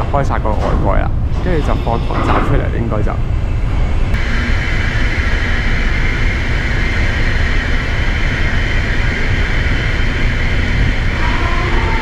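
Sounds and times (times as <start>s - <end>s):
ferry machinery drone: 0.0s - 12.0s.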